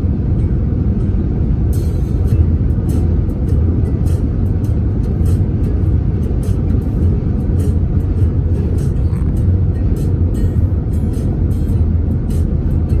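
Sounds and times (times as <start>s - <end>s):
car driving on highway rumble: 0.0s - 13.0s.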